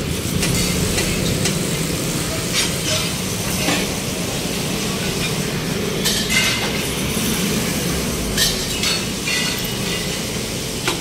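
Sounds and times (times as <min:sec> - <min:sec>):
traffic and machinery rumble: 0:00.0 - 0:11.0.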